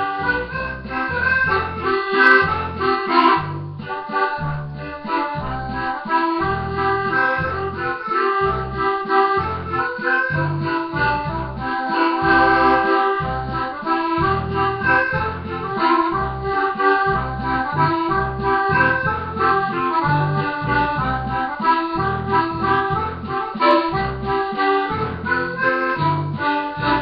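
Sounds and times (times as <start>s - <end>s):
piano accordion playing: 0.0s - 27.0s.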